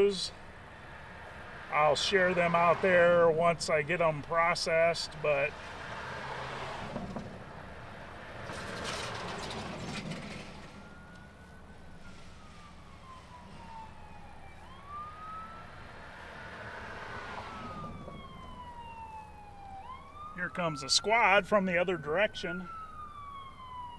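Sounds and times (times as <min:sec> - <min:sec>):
emergency vehicle siren wailing: 0:00.0 - 0:23.9
road traffic noise: 0:00.0 - 0:23.9.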